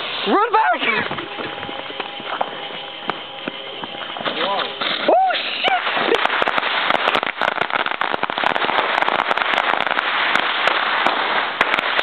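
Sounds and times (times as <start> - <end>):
firework crackles and pops: 0.0 - 12.0
fireworks hissing: 0.0 - 12.0.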